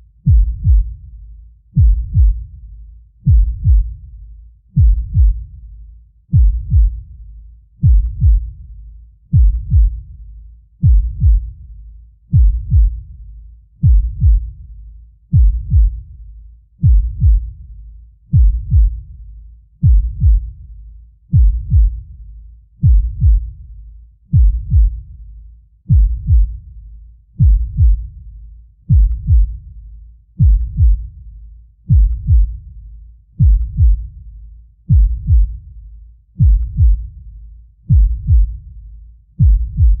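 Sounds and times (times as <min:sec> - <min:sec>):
deep slow heartbeat: 0:00.0 - 0:40.0.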